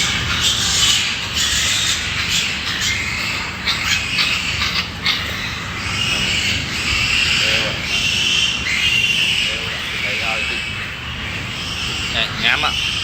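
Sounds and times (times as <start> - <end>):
pigs calling: 0.0 - 13.0.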